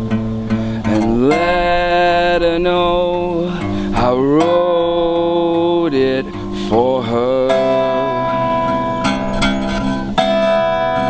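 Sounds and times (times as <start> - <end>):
man singing: 0.0 - 9.4
acoustic guitar strumming: 0.0 - 11.0.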